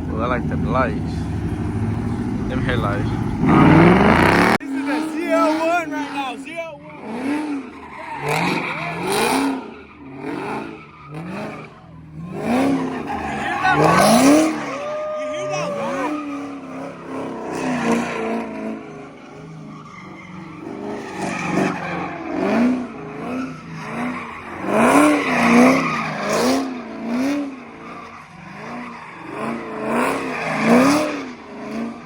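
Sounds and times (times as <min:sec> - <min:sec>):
car engine revving hard: 0:00.0 - 0:32.0
tyres skidding: 0:00.0 - 0:32.0.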